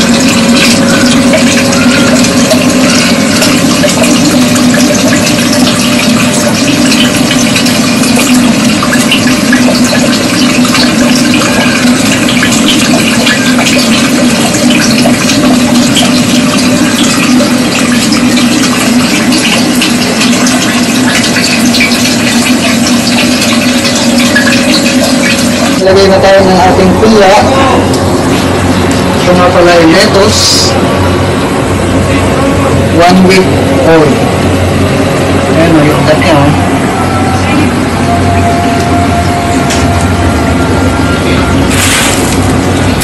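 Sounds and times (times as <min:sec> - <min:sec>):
electric pump hum: 0:00.0 - 0:43.0
water trickling and splashing: 0:00.0 - 0:43.0.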